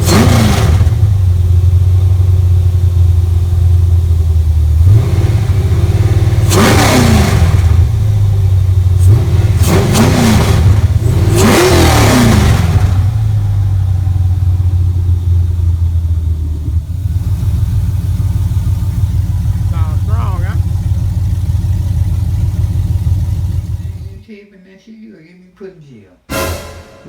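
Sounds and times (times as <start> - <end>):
engine idling and revving: 0.0 - 24.2.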